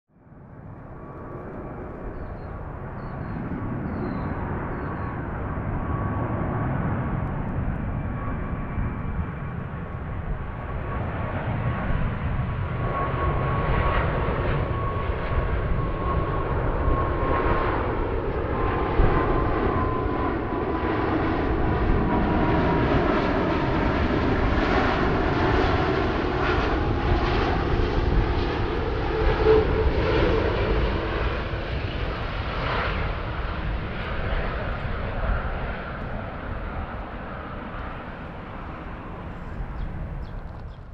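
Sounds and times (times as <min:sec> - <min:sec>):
jet airliner rumble flying past: 0:00.2 - 0:40.9
jet engine whine: 0:00.2 - 0:40.9.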